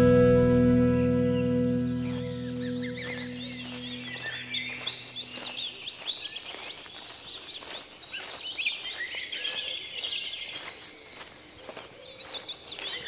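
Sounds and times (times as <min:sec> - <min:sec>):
birds trilling and chirping: 0:00.9 - 0:13.0.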